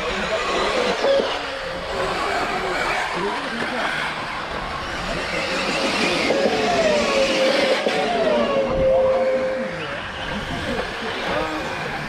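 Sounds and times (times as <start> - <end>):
model car motors whining: 0.0 - 12.0.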